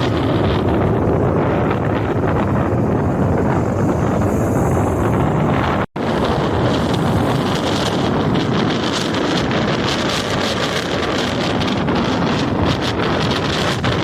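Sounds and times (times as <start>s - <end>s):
rough sea surf: 0.0s - 14.0s
wind buffeting microphone: 0.0s - 14.0s.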